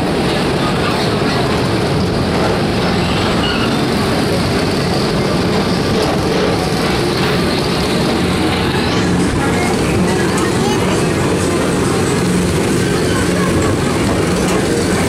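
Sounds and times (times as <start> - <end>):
ride car running along track: 0.0 - 15.0.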